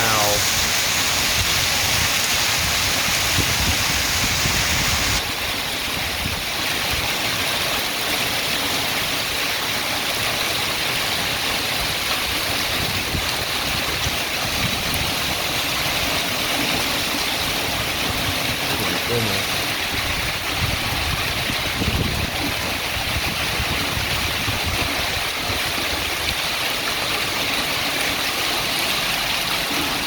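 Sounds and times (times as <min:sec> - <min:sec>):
hail and heavy rain: 0:00.0 - 0:30.0.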